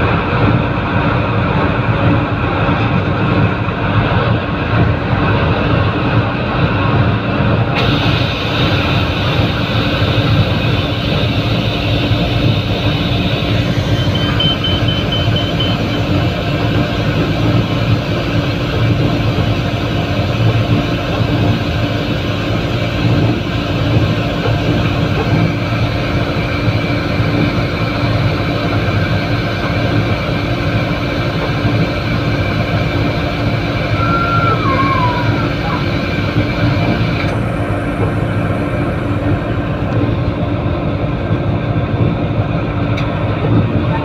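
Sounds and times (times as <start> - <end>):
diesel locomotive engine drone: 0.0 - 44.0
train rumbling on rails: 0.0 - 44.0.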